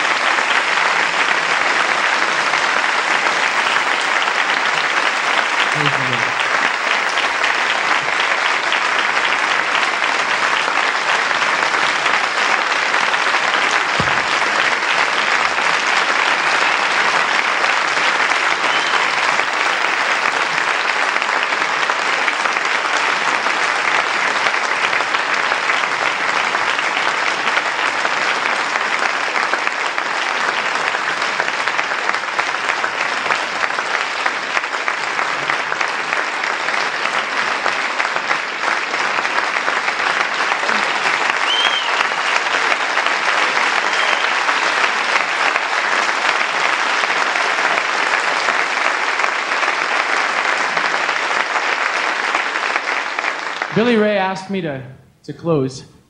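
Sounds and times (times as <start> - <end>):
large audience applauding: 0.0 - 54.5.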